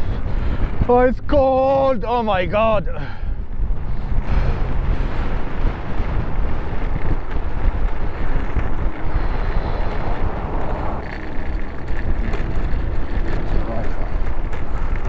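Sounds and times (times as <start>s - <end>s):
tyres rumbling over cobblestones: 0.0s - 15.0s
wind noise on microphone: 0.0s - 15.0s.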